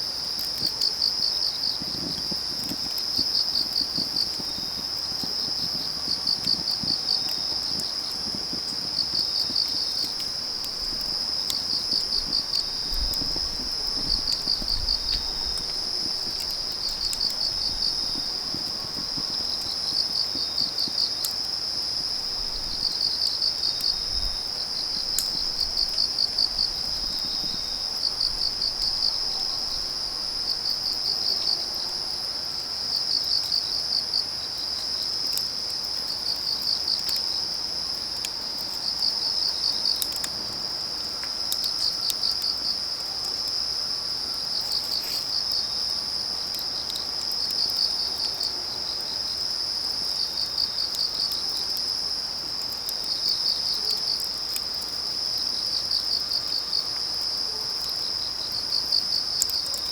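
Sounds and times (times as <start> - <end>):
crickets chirping: 0.0 - 59.9
firewood crackling: 0.0 - 59.9.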